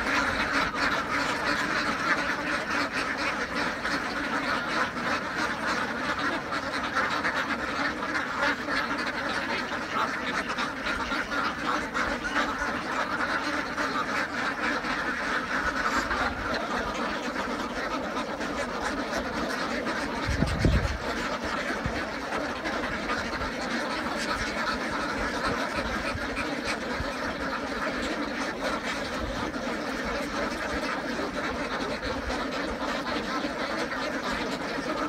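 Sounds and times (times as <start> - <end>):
ducks quacking: 0.0 - 35.0.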